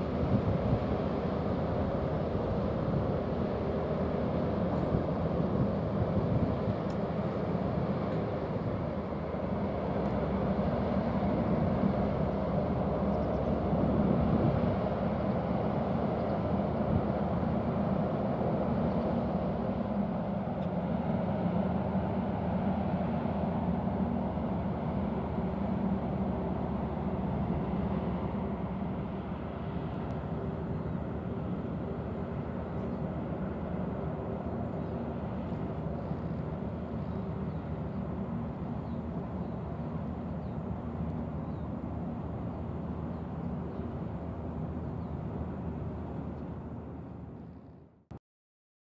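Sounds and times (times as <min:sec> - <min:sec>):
ship diesel engine droning: 0:00.0 - 0:47.6.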